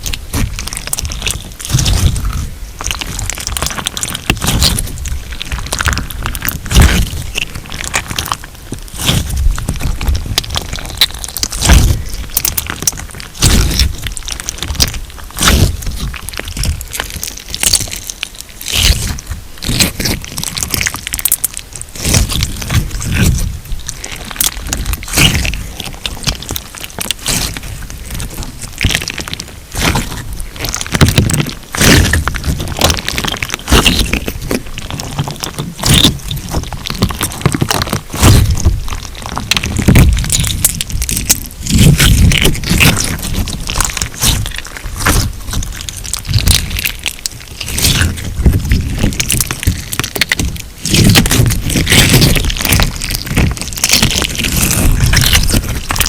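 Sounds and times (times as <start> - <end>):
slime crackling and crunching: 0.0 - 56.0
slime squishes: 0.0 - 56.0.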